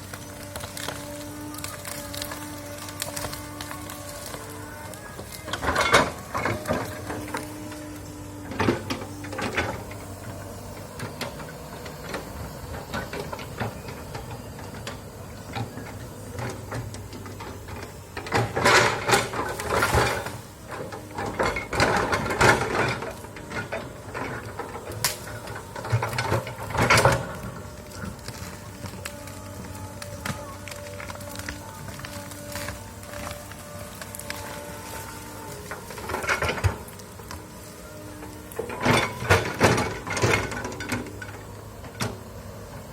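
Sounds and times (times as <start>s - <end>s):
loud crackling bursts: 0.0s - 41.4s
excavator engine running: 0.0s - 42.9s.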